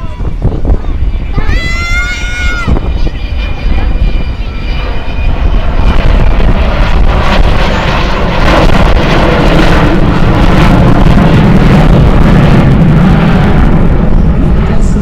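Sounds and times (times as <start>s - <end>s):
jet engines roaring overhead: 0.0s - 15.0s
wind buffeting microphone: 0.0s - 15.0s.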